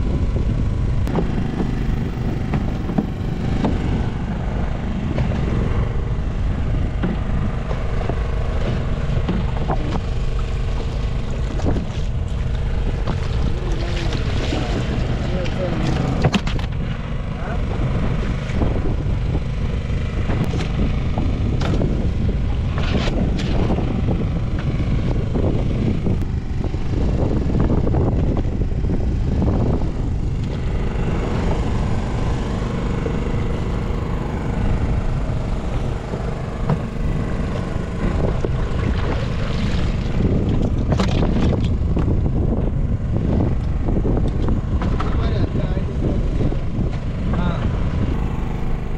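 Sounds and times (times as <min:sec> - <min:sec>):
boat engine rumbling: 0:00.0 - 0:48.9.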